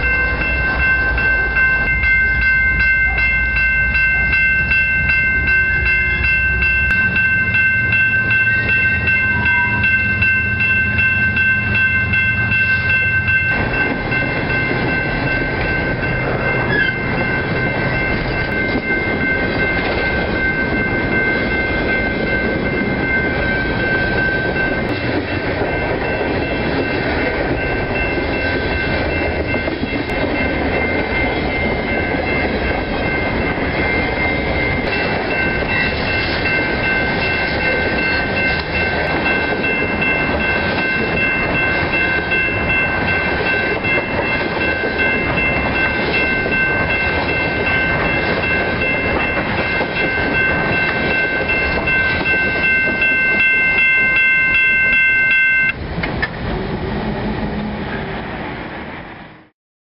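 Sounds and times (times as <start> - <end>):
high-pitched ringing tone: 0.0 - 55.8
train wheels clattering on rail: 9.8 - 55.0, 55.7 - 59.0.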